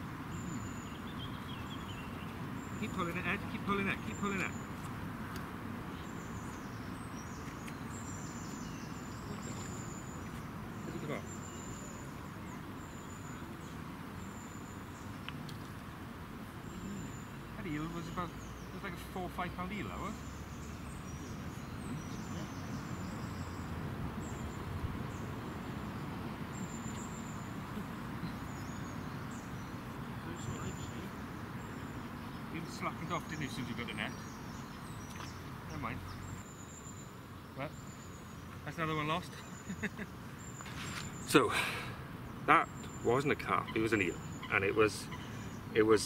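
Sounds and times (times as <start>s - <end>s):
bird chirps: 0.3s - 4.9s, 5.9s - 15.3s, 16.6s - 46.0s.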